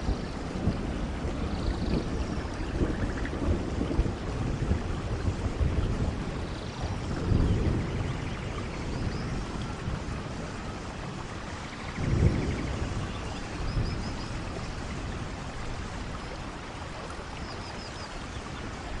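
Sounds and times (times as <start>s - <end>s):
heavy rain: 0.0s - 19.0s
thunder rumbles: 0.0s - 19.0s.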